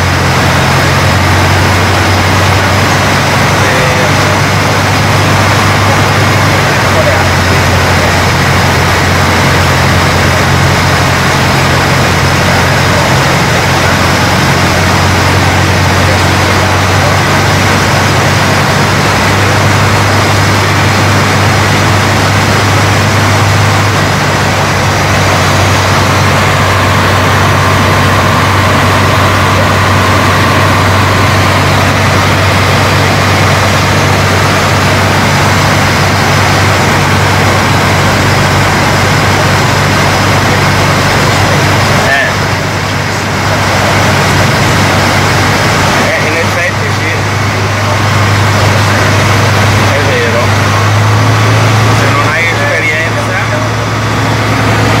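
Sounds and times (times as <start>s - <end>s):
propeller engine humming: 0.0s - 55.0s.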